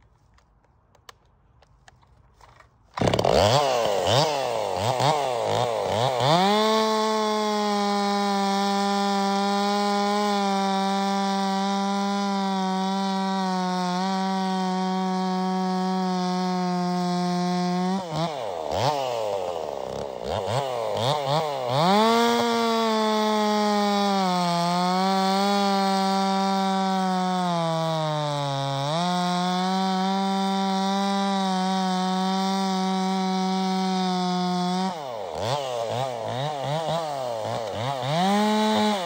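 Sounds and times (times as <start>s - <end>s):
chainsaw cutting through log: 2.3s - 39.0s.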